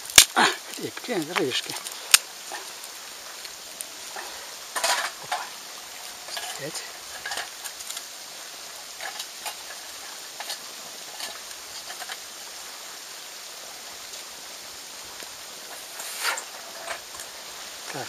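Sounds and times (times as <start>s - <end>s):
fire hissing: 0.0s - 18.0s
twig fire crackling: 0.0s - 18.0s.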